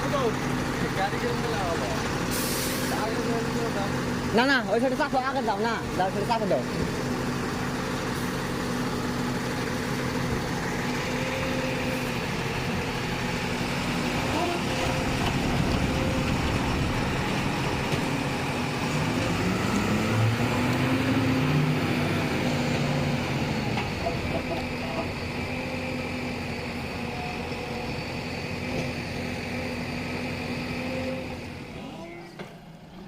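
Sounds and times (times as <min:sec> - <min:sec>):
diesel engine revving: 0:00.0 - 0:33.0.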